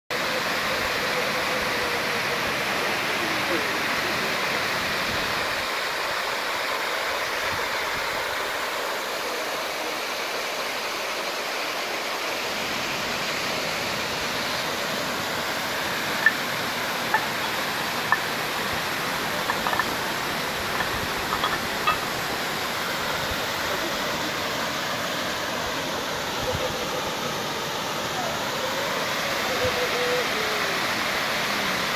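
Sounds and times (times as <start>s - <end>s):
waterfall rushing into pool: 0.1s - 31.9s.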